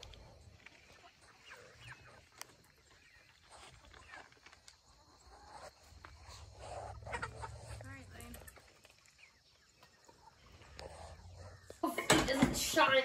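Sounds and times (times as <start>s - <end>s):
faint animal calls: 0.0s - 11.9s.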